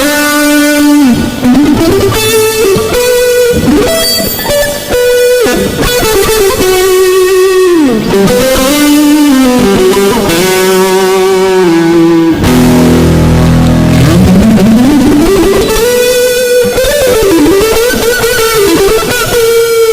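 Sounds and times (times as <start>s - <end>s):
electric guitar lead line: 0.0s - 19.9s.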